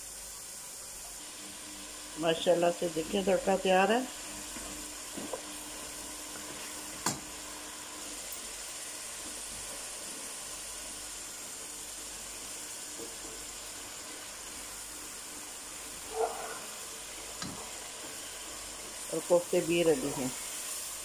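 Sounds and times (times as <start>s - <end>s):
spices sizzling in hot oil: 0.0s - 21.0s.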